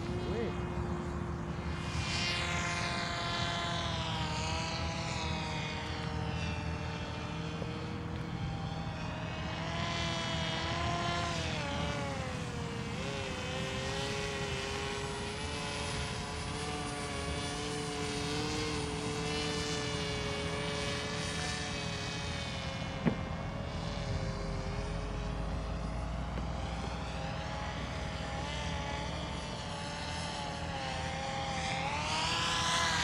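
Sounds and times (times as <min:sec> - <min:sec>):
autogyro propeller motor droning: 0:00.0 - 0:33.0.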